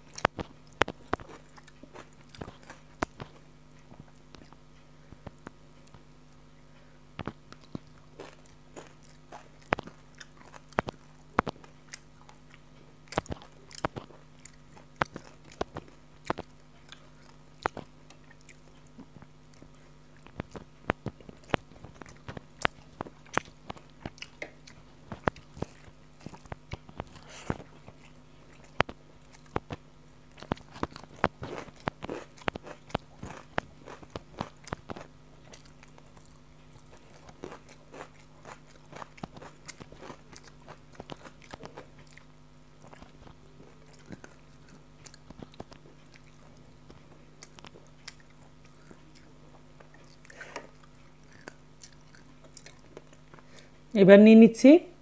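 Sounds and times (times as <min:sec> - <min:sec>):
person chewing food: 0:00.0 - 0:53.9
faint steady hum: 0:00.0 - 0:55.0.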